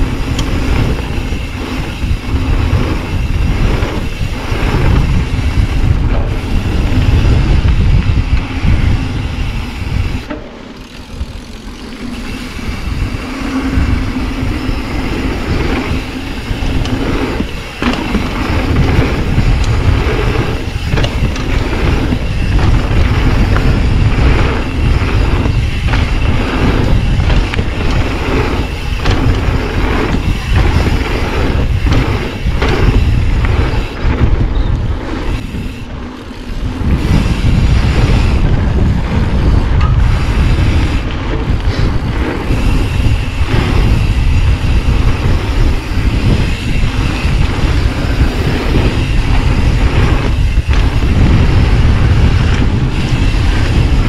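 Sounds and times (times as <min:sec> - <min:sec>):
bike knocks and rattles: 0:00.0 - 0:54.0
bike tyres rumbling: 0:00.0 - 0:54.0
wind: 0:00.0 - 0:54.0.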